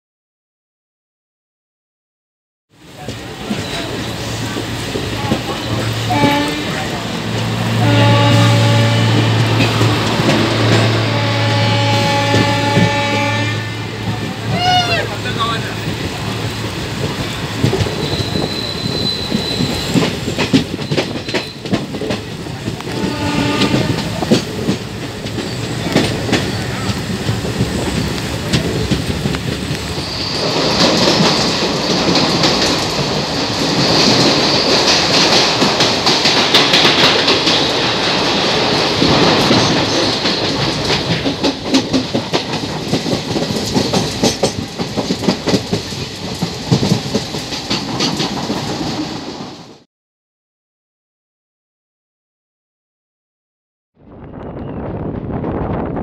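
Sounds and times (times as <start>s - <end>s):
train rumble in tunnel: 2.7s - 49.9s, 54.0s - 56.0s
train wheels clicking on rail joints: 2.9s - 13.4s, 14.0s - 49.8s.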